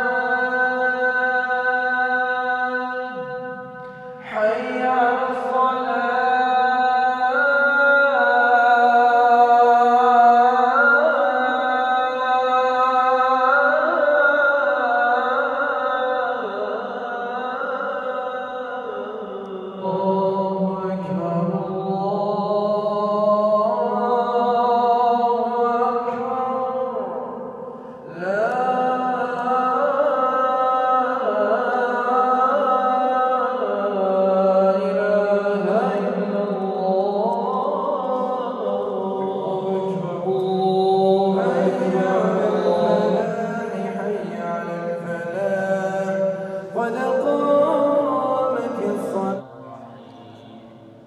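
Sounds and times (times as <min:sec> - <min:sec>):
man chanting a prayer: 0:00.0 - 0:27.4, 0:28.0 - 0:50.8.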